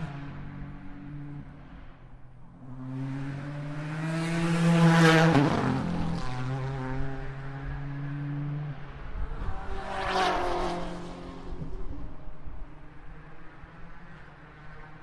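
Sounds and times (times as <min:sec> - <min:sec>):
race car passing at speed: 0:00.0 - 0:15.0.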